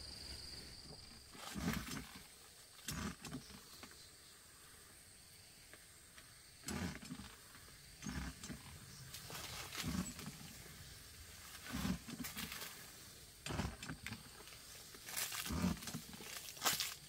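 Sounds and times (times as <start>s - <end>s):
rustling of grass and leaves: 0.0s - 17.0s.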